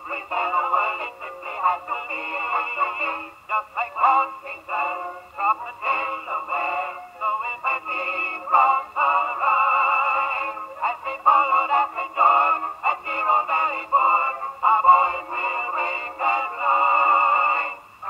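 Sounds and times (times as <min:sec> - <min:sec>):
song on old phonograph: 0:00.0 - 0:18.0.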